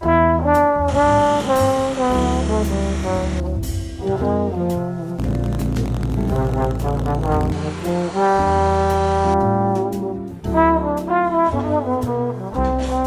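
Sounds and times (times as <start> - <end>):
jazzy brass music: 0.0 - 13.0.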